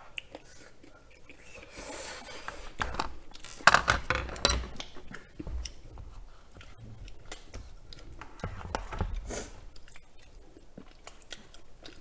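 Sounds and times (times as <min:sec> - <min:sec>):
noodles slurped and chewed: 0:00.0 - 0:03.5, 0:04.9 - 0:12.0.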